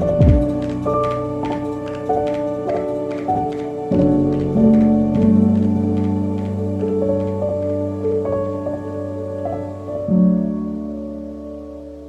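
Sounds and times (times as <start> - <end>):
soft ambient keyboard music: 0.0 - 12.0.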